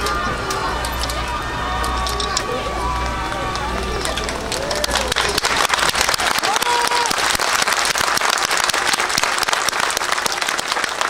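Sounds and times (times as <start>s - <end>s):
crowd clapping: 1.8s - 11.0s.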